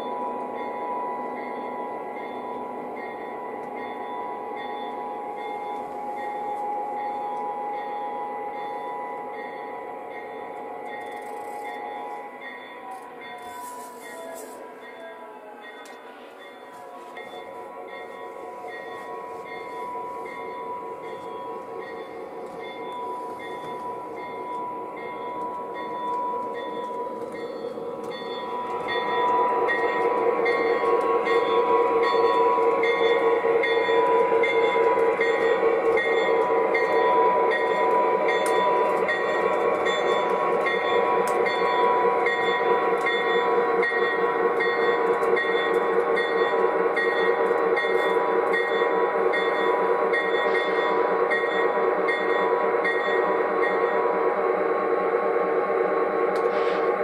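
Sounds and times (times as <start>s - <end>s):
model locomotive diesel engine sound: 0.0s - 57.0s.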